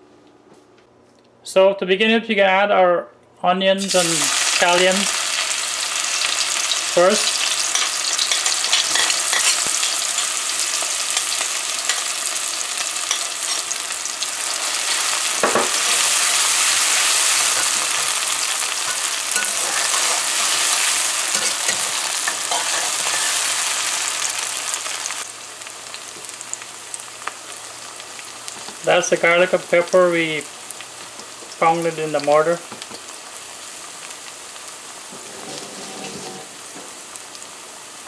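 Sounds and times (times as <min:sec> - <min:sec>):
onion sizzling in hot oil: 0:03.8 - 0:38.0.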